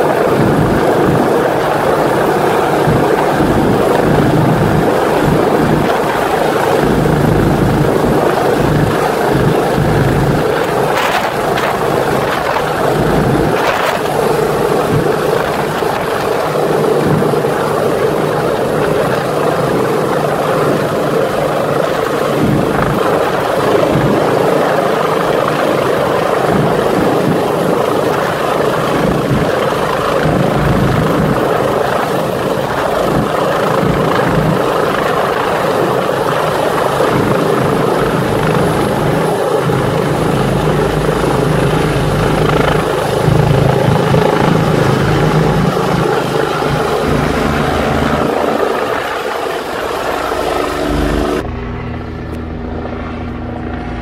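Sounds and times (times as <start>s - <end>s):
helicopter rotor and turbine noise: 0.0s - 54.0s.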